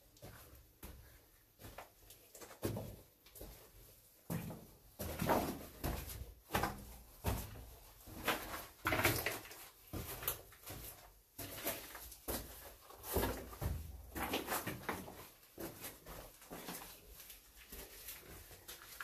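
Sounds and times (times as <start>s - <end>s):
footsteps crunching on rubble: 0.1s - 19.0s.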